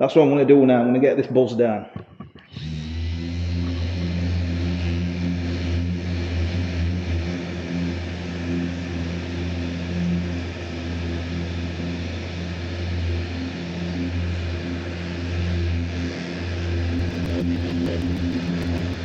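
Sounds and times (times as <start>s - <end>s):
orbital sander running: 2.5s - 19.0s.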